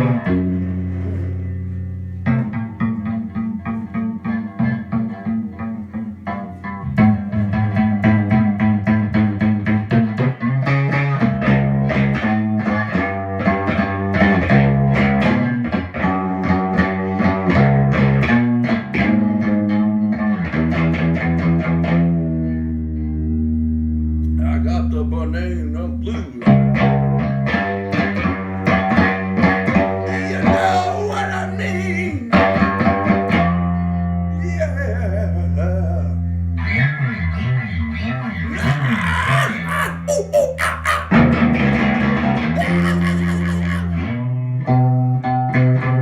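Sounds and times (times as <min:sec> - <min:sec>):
blues guitar playing: 0:00.0 - 0:46.0.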